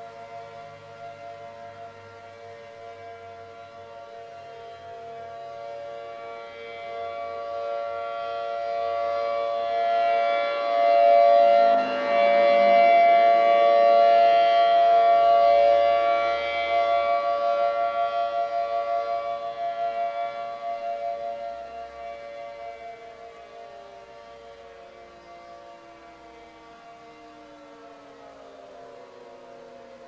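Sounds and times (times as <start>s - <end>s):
warning siren two-tone chord: 0.0s - 30.0s.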